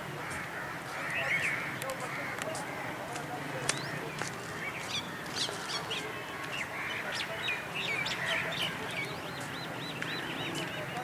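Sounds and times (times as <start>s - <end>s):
small birds chirping: 0.3s - 11.0s.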